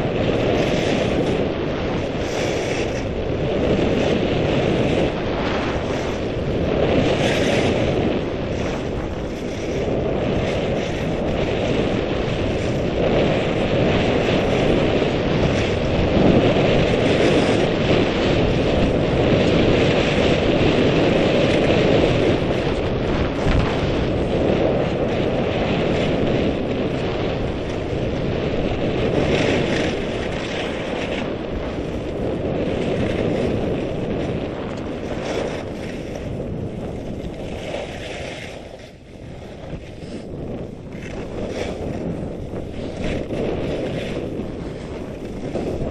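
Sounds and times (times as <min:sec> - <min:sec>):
skis scraping on snow: 0:00.0 - 0:45.9
wind rushing over microphone: 0:00.0 - 0:45.9.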